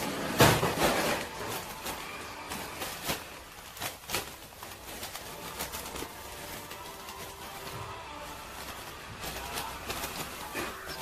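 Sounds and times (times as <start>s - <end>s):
bag and shavings rustling: 0.0s - 11.0s
shavings crackling and tapping: 0.0s - 11.0s.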